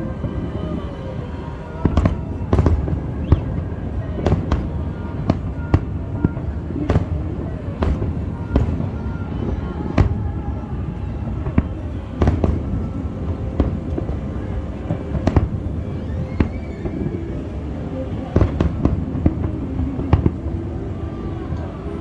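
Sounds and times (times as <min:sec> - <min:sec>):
low rumble of firework bursts: 0:00.0 - 0:22.0
sharp firework bangs: 0:01.8 - 0:17.4, 0:18.0 - 0:20.5.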